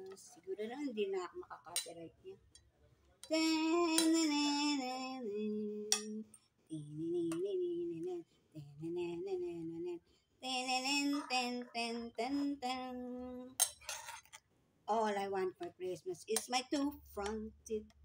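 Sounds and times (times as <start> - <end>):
woman singing unaccompanied: 0.0 - 2.4, 3.2 - 13.6, 14.9 - 18.0.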